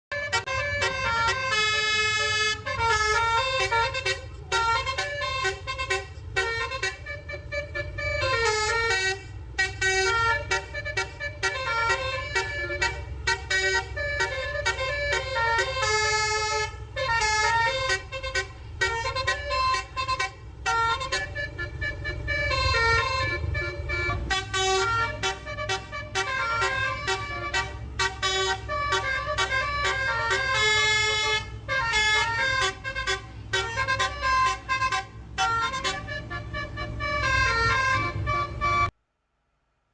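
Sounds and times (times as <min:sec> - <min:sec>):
bus melody horn: 0:00.1 - 0:39.0.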